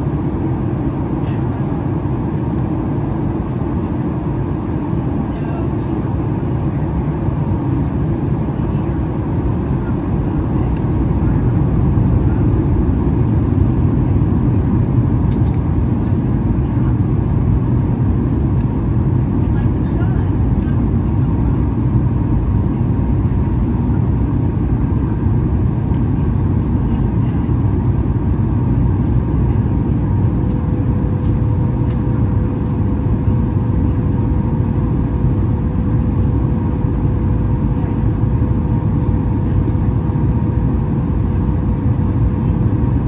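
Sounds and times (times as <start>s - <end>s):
jet engine cabin rumble: 0.0s - 43.0s.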